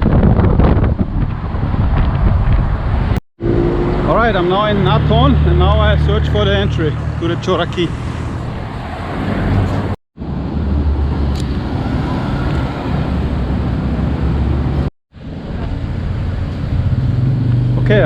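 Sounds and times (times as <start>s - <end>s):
vehicles passing with low rumble: 0.0s - 18.0s.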